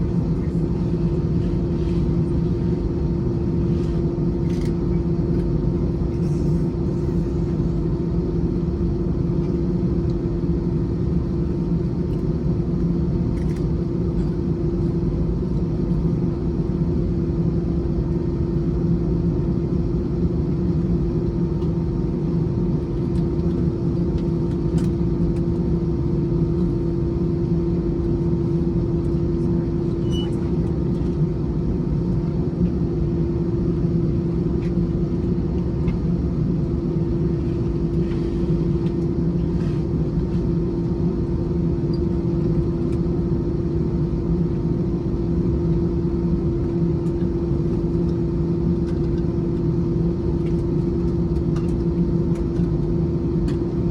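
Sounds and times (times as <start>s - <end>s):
jet engines idling rumble: 0.0s - 53.9s.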